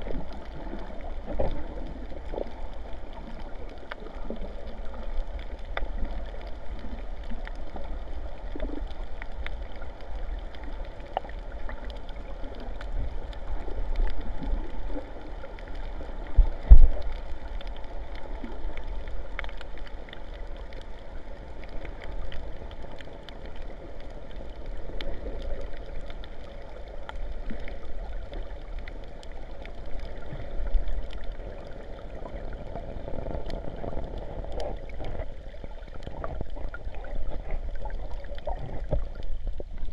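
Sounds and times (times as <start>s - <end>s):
sea water sloshing: 0.0s - 39.9s.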